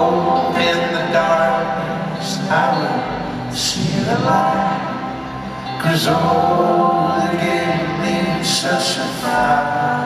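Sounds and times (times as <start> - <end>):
live band playing: 0.0 - 10.0
voices singing in harmony: 0.0 - 10.0.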